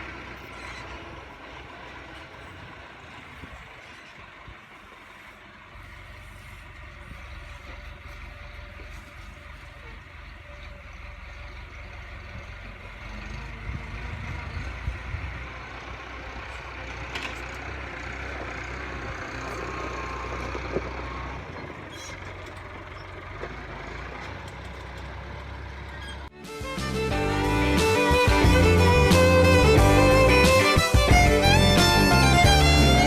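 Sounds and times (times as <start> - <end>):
clunks: 0.0 - 27.1
tractor engine running: 0.0 - 33.0.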